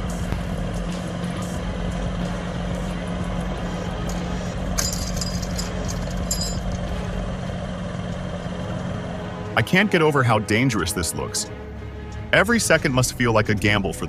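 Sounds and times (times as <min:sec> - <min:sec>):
heavy machine engine humming: 0:00.0 - 0:14.0.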